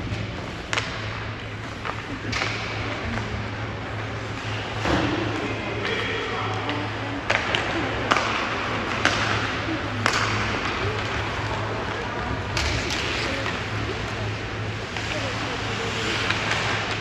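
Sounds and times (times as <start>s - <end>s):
faint voices: 0.0s - 17.0s
hockey sticks and puck clacking: 0.0s - 17.0s.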